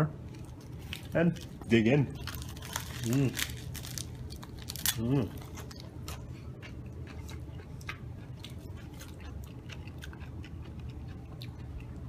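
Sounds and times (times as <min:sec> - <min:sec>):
low steady hum: 0:00.0 - 0:12.0
person chewing food: 0:00.3 - 0:12.0.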